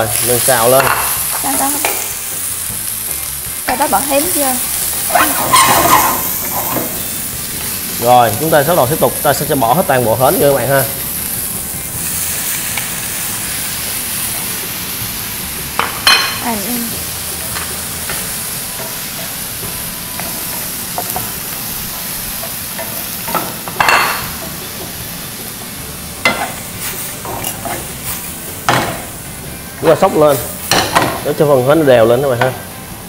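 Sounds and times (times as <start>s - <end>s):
clams and onion sizzling: 0.0s - 33.0s.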